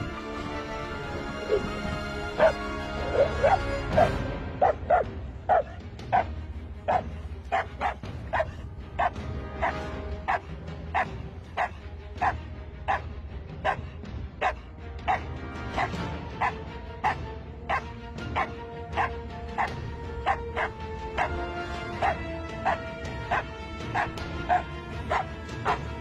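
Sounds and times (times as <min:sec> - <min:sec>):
background music: 0:00.0 - 0:26.0
dog barking: 0:01.5 - 0:06.3, 0:06.9 - 0:26.0.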